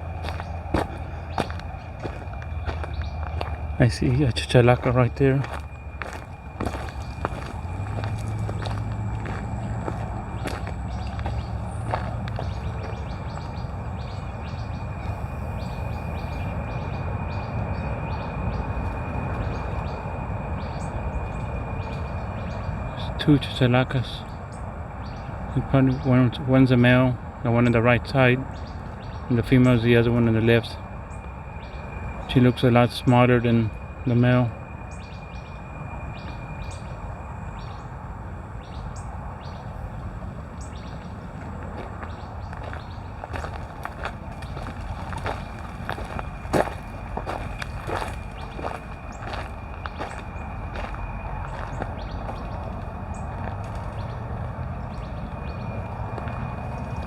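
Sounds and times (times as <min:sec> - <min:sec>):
low background rumble: 0:00.0 - 0:57.0
songbirds chirping: 0:00.0 - 0:57.0.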